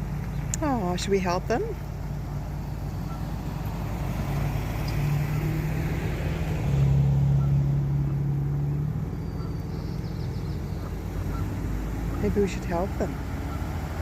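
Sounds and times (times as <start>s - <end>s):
engine running at low speed: 0.0s - 14.0s.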